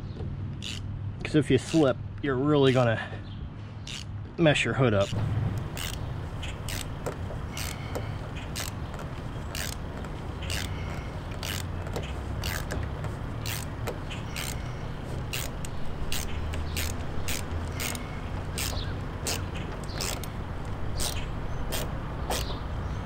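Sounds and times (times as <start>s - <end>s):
screws scraping as driven by hand: 0.6s - 1.9s, 3.8s - 4.1s, 5.0s - 22.6s.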